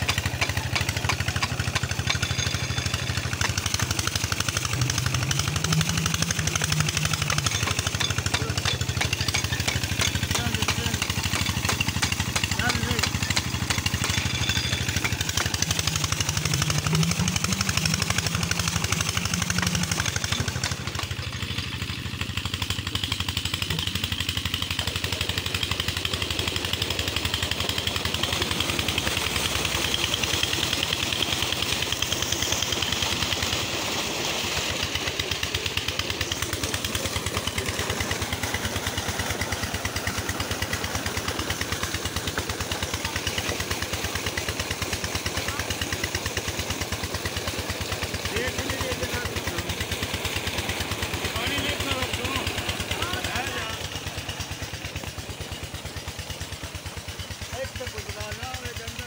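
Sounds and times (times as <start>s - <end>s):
diesel engine chugging: 0.0s - 59.0s
water gushing into a tank: 0.0s - 59.0s.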